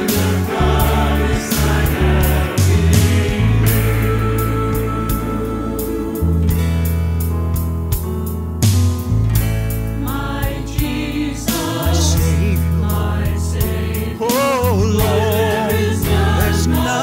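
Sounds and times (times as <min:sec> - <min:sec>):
group singing gospel song: 0:00.0 - 0:07.0, 0:09.9 - 0:17.0
bass notes: 0:00.0 - 0:17.0
piano accompaniment: 0:00.0 - 0:17.0.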